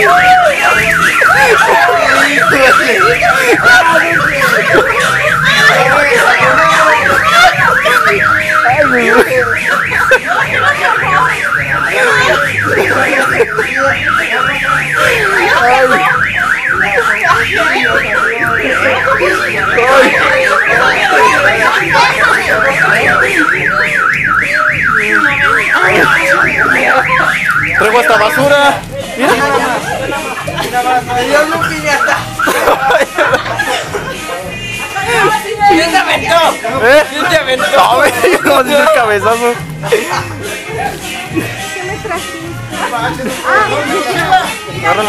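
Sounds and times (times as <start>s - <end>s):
electronic alarm warbling: 0.0s - 39.6s.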